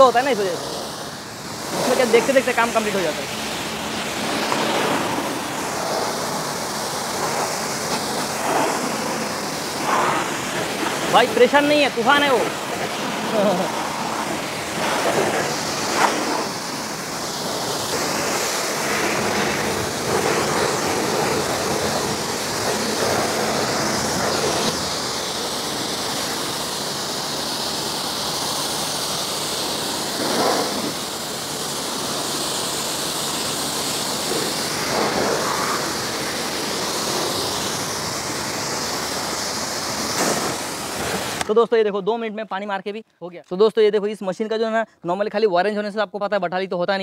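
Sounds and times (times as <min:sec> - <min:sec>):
pressure washer spraying car: 0:00.0 - 0:41.6.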